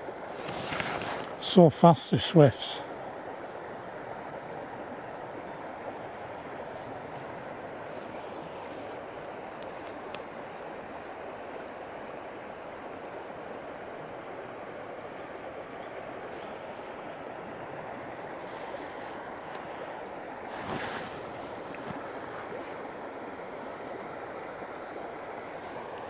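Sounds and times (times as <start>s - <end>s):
river in flood rushing: 0.0s - 26.0s.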